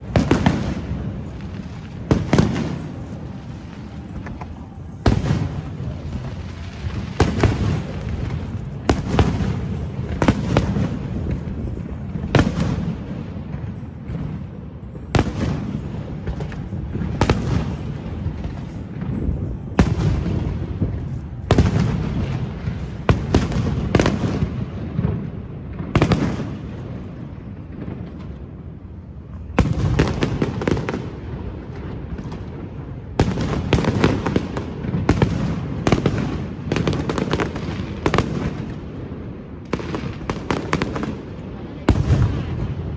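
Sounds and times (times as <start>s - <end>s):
low rumble and crackle: 0.0s - 42.9s.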